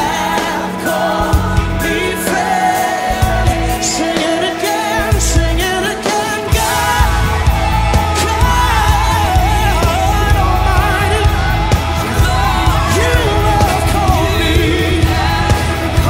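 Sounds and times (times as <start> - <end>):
pop rock song with singer: 0.0 - 16.0.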